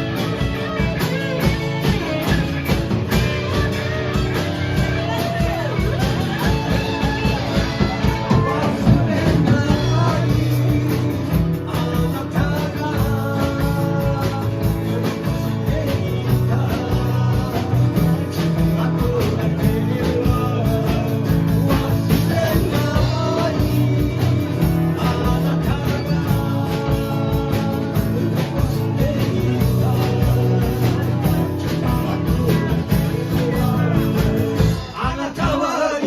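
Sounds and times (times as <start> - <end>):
rock band playing live: 0.0 - 36.0
person singing: 3.1 - 36.0.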